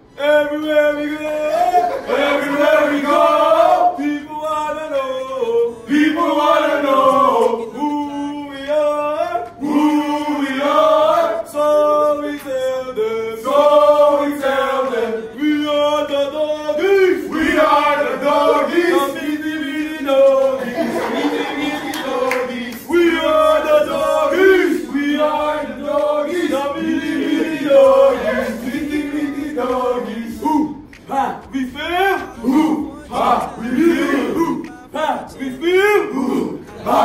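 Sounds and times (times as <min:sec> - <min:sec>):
men chanting in unison: 0:00.2 - 0:37.0.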